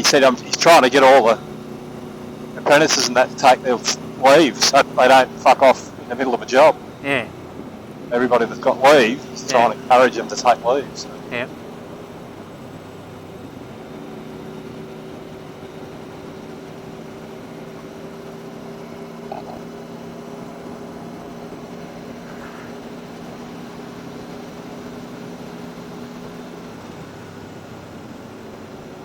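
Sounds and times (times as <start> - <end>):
motorcycle engine drone: 0.0 - 29.0.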